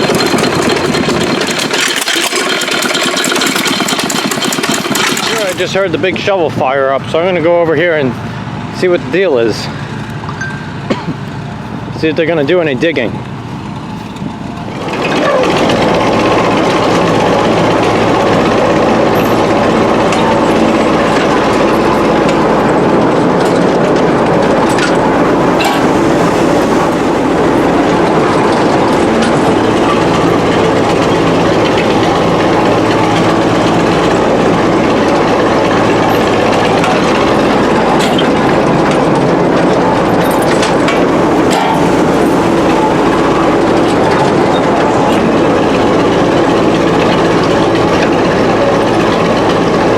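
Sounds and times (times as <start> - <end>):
power shovel engine running: 0.0 - 49.9.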